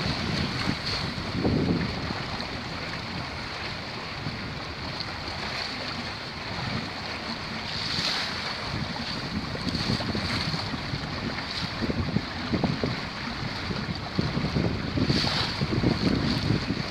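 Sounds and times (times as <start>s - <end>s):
water rushing along hull: 0.0s - 16.9s
wind buffeting microphone: 0.0s - 16.9s.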